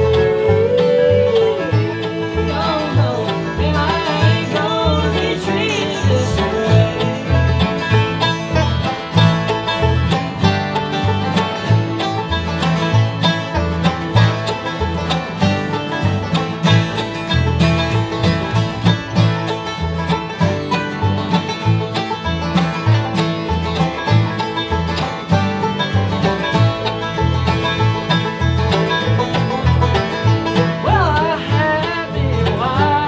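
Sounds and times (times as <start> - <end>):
banjo fast picking: 0.0 - 33.0
bluegrass band playing: 0.0 - 33.0.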